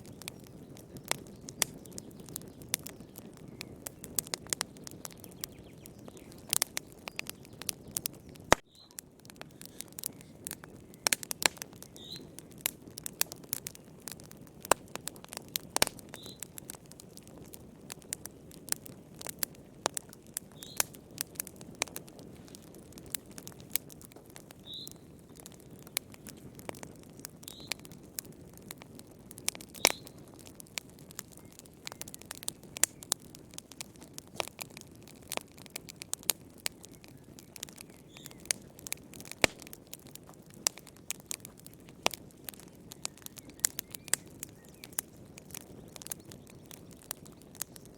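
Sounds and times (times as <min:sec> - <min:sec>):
low hiss of burning: 0:00.0 - 0:47.9
wood fire crackling: 0:00.0 - 0:47.9.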